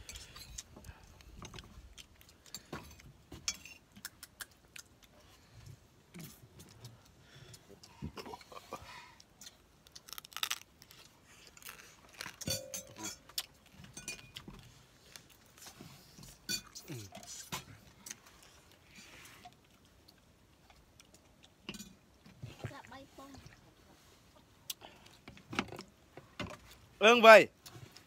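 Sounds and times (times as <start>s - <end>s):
chewing: 0.0s - 22.6s.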